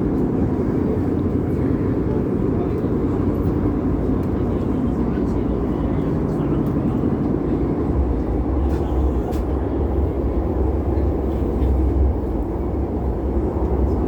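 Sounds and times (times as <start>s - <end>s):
train deep rumbling: 0.0s - 14.0s.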